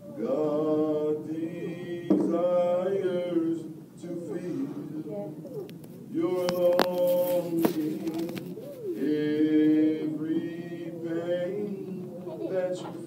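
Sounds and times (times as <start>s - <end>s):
man singing unaccompanied: 0.0s - 5.4s, 6.1s - 13.0s.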